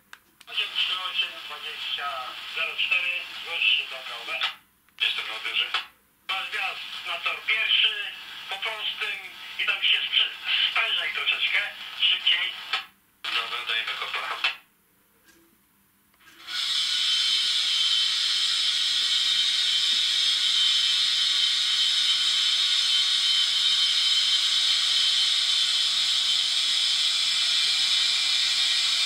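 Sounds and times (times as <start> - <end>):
steady hissing from small speaker: 0.5 - 14.7, 16.2 - 29.0.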